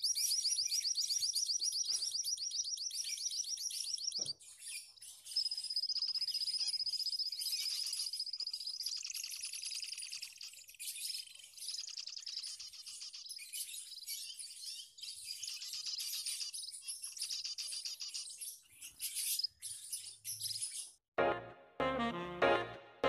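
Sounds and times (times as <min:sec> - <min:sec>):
finches chirping and twittering: 0:00.0 - 0:21.0.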